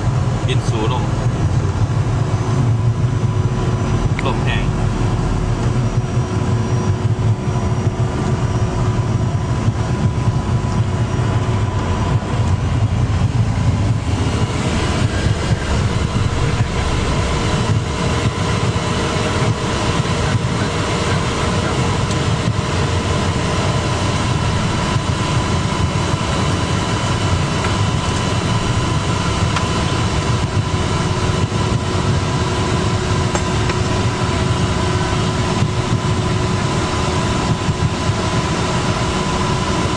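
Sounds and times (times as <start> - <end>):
airflow rumble: 0.0 - 39.9
jet engine hum: 0.0 - 39.9
steady whining tones: 0.0 - 39.9.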